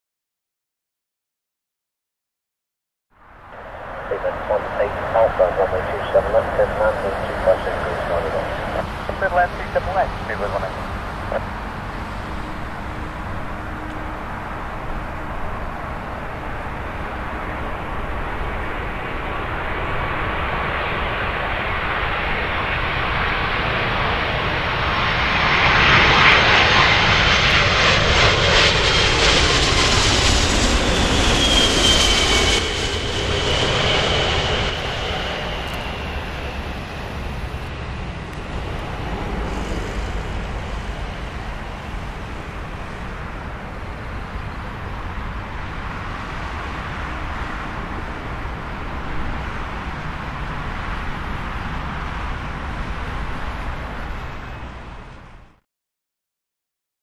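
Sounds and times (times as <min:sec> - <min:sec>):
jet passing overhead: 0:03.5 - 0:55.2.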